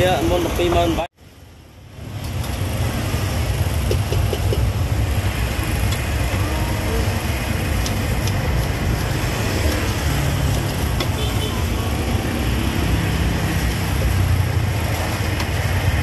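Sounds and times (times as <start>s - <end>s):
rumble of street traffic: 0.0s - 16.0s.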